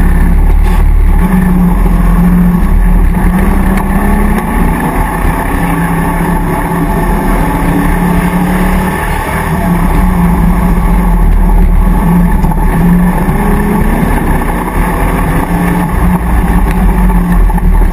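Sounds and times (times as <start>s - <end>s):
engine running hard under load: 0.0s - 17.9s.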